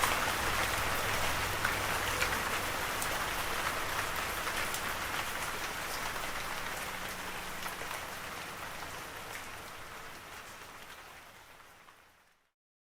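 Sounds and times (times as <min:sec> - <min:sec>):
rain falling: 0:00.0 - 0:12.5.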